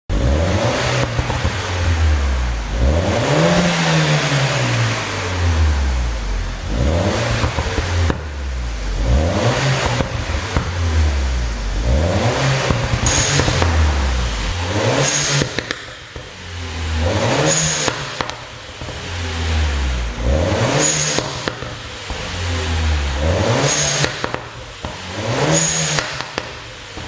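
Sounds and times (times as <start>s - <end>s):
exhaust pops and crackles: 0.1s - 3.8s, 6.4s - 27.0s
car engine revving: 0.1s - 27.0s.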